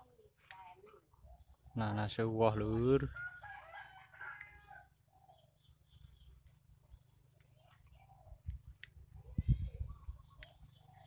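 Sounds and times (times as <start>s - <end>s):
distant bird calls: 0.8s - 11.0s.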